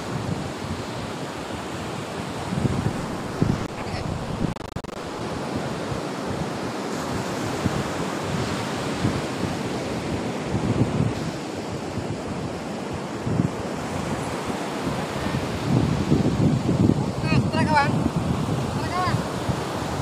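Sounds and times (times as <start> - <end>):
surf breaking on beach: 0.0 - 20.0
wind gusting on microphone: 0.0 - 20.0.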